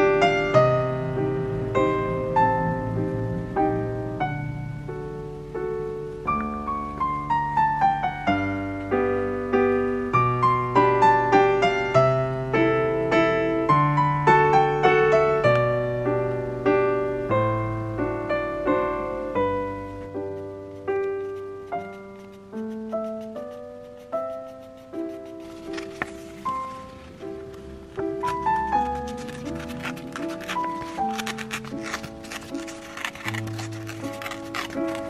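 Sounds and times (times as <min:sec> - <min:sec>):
gentle piano melody: 0:00.0 - 0:35.0.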